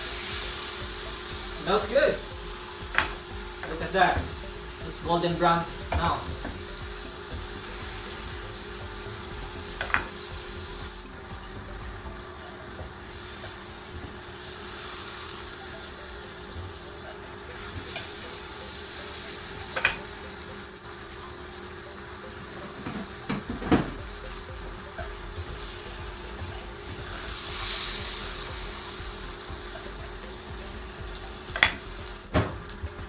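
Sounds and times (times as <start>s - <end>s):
meat sizzling in a frying pan: 0.0s - 33.0s.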